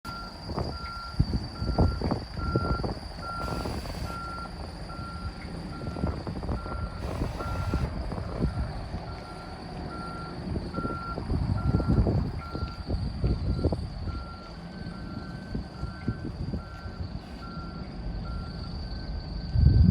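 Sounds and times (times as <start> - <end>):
diesel engine running: 0.0 - 19.9
reverse alarm beeping: 0.1 - 19.6.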